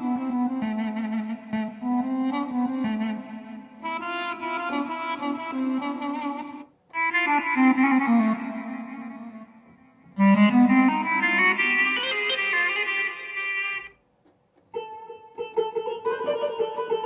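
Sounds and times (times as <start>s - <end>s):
keyboard melodic phrases: 0.0s - 14.0s.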